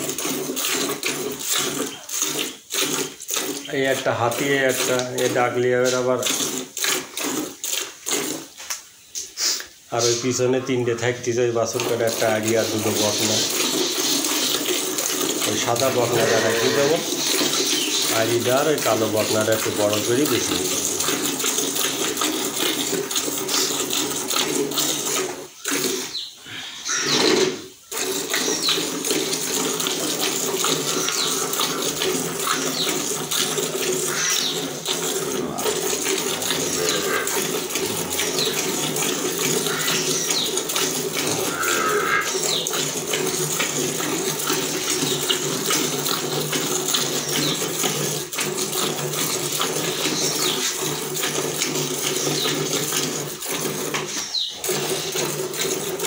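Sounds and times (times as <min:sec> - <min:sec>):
milk squirting into a pail: 0:00.0 - 0:56.0.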